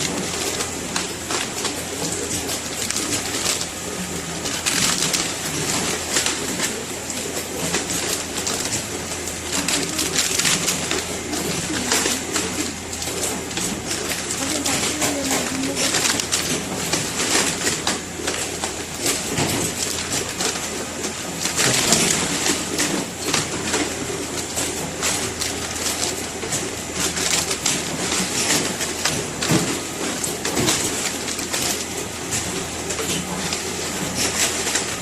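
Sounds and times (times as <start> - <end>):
weighing machine hum: 0.0 - 35.0.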